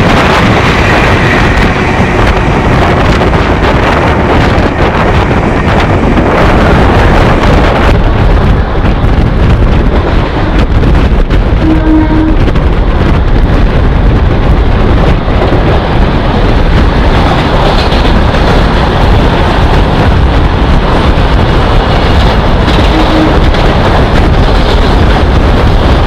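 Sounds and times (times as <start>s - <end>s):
train rushing and rumbling: 0.0s - 26.0s
wind buffeting microphone: 0.0s - 26.0s.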